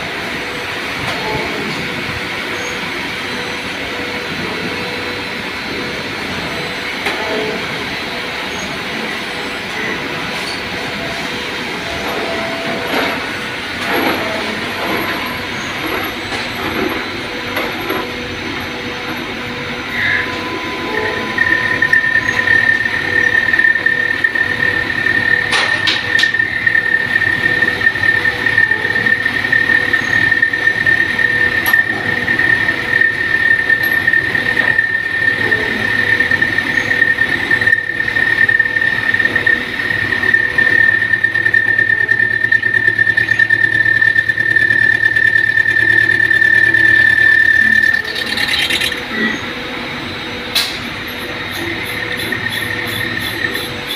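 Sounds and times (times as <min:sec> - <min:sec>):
lathe machine humming: 0:00.0 - 0:53.9
high-pitched cutting squeal: 0:06.1 - 0:53.9.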